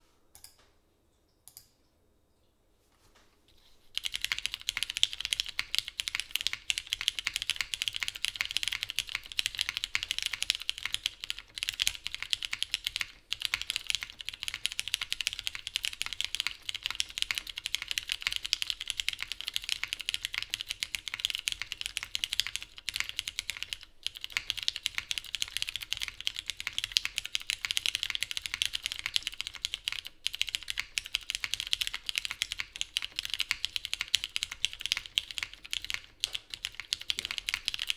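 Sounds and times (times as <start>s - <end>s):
fast typing on mechanical keyboard: 4.0s - 37.9s.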